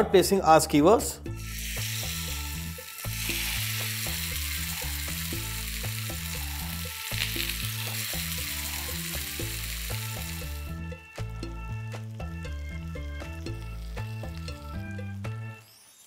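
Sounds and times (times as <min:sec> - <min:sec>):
chicken sizzling in hot oil: 0:01.4 - 0:16.0.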